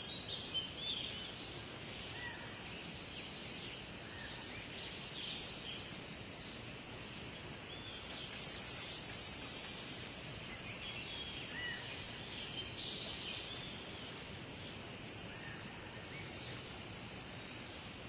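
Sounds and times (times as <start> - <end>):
birds chirping: 0.0 - 18.0
faint background hiss: 0.0 - 18.0.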